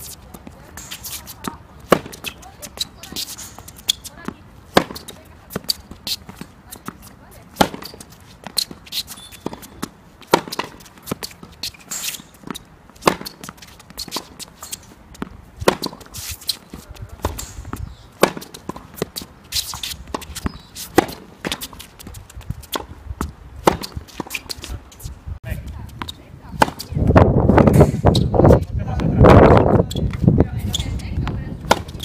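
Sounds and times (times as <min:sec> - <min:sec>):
tennis ball struck by rackets: 0:00.0 - 0:24.8, 0:25.9 - 0:28.3, 0:30.8 - 0:32.0.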